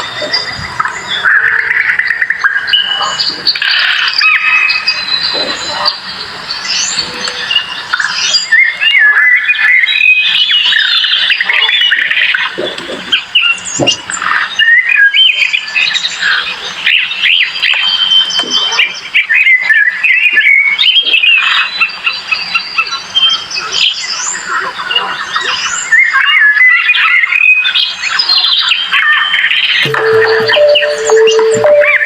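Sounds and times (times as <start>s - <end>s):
chorus of birds calling: 0.0s - 32.0s.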